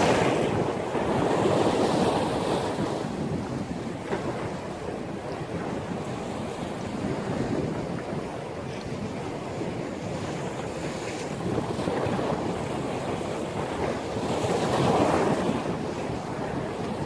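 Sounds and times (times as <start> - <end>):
sea surf: 0.0 - 17.0
wind on microphone: 0.0 - 17.0.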